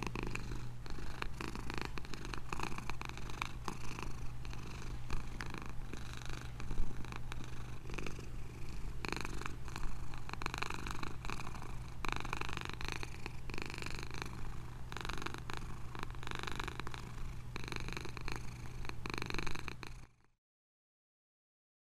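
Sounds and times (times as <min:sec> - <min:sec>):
cat purring: 0:00.0 - 0:20.3.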